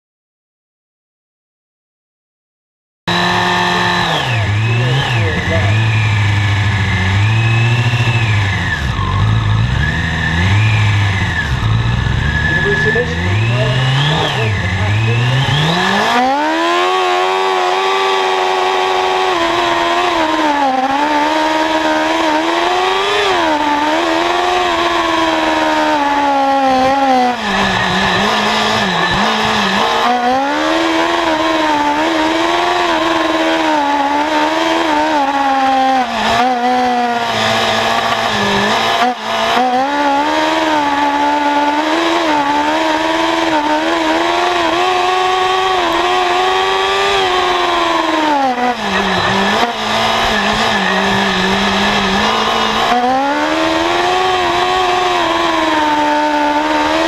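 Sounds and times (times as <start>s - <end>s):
race car engine at high revs: 3.1s - 57.0s.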